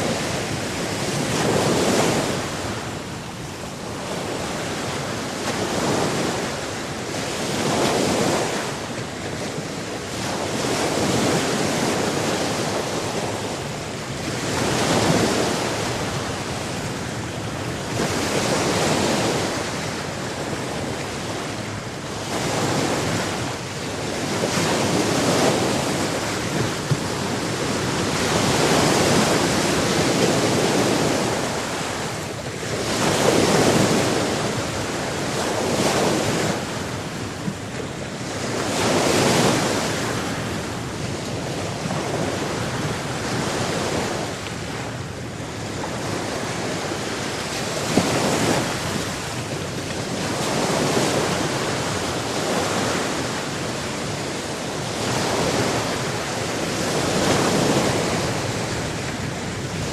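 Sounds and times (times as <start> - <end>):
sea waves washing ashore: 0.0 - 59.9.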